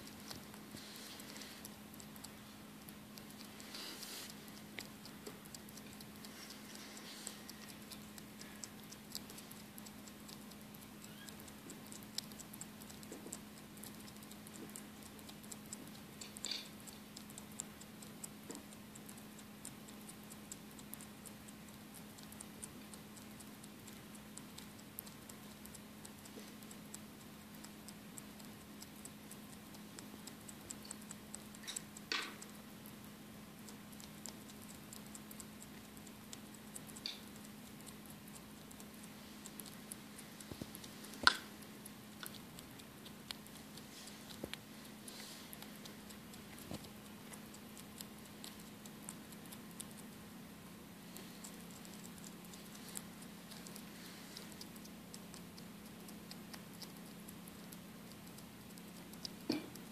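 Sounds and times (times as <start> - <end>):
bat chewing crunchy food: 0.0 - 59.9.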